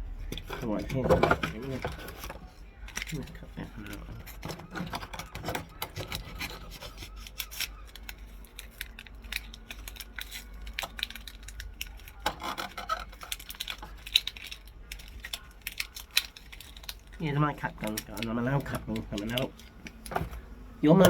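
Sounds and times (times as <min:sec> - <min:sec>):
rubbing and rustling: 0:00.1 - 0:21.0.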